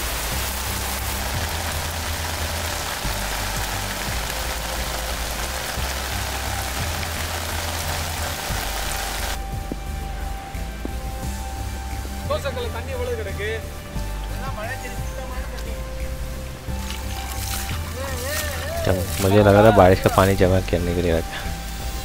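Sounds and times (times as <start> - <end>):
music with deep bass: 0.0 - 22.0
steady rain hiss: 0.0 - 22.0.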